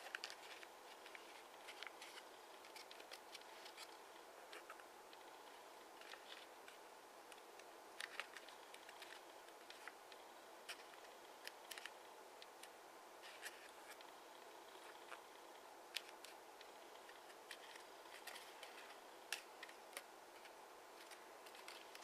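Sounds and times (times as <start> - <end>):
origami paper crinkling: 0.0 - 14.1, 15.9 - 22.0
steady low hiss: 0.0 - 22.0.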